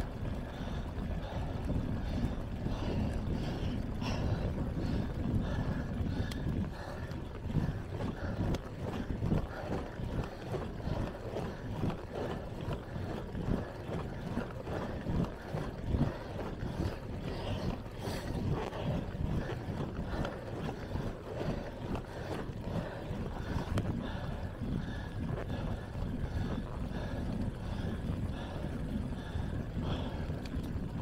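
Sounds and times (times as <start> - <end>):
tyre noise on asphalt: 0.0 - 31.0
wind rushing over microphone: 0.0 - 31.0.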